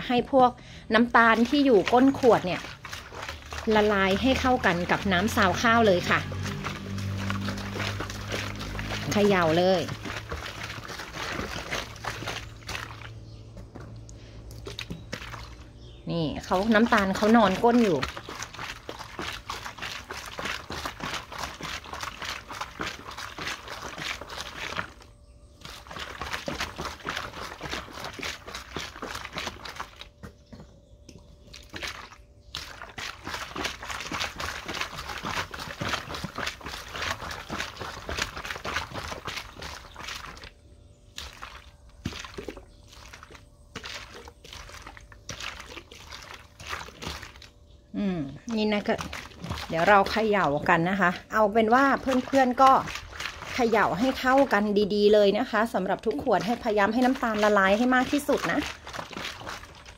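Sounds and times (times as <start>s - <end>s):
water sloshing in plastic bottle: 0.0s - 59.9s.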